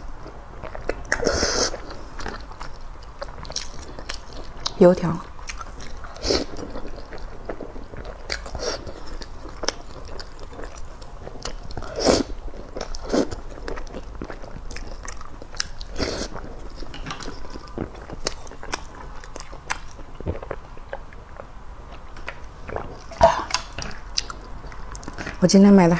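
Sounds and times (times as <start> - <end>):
person chewing noodles: 0.0 - 25.4.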